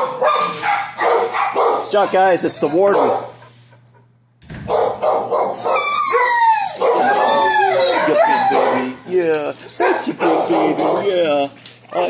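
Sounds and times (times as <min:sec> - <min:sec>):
dogs howling: 0:00.0 - 0:03.5, 0:04.7 - 0:12.0
dogs barking: 0:00.0 - 0:12.0.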